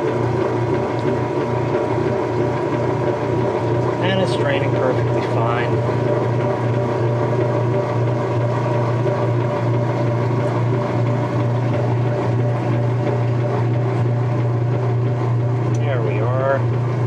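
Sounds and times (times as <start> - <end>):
washer drain pump humming: 0.0 - 17.0.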